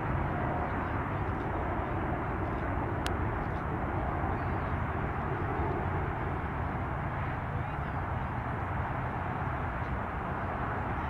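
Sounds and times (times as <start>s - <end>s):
jet airliner roar: 0.0s - 11.0s.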